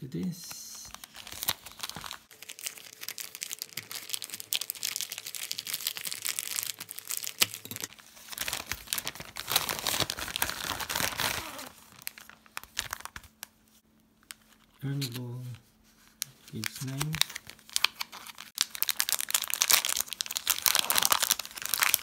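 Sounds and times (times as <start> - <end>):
plastic bag crinkling: 0.9 - 13.5, 16.5 - 22.0.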